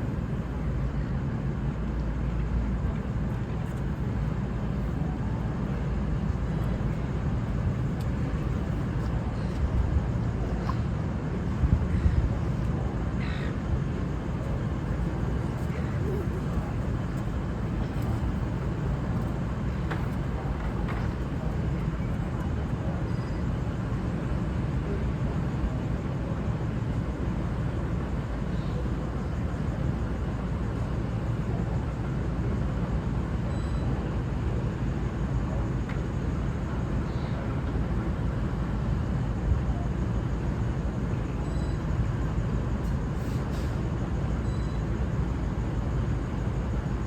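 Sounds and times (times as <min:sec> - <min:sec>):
diesel railcar idling: 0:00.0 - 0:47.0.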